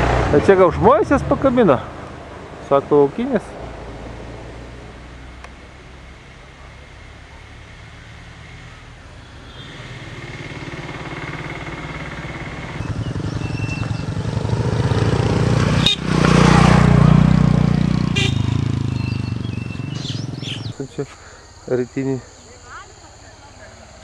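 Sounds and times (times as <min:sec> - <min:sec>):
vehicle engine passing by: 0:00.0 - 0:21.0.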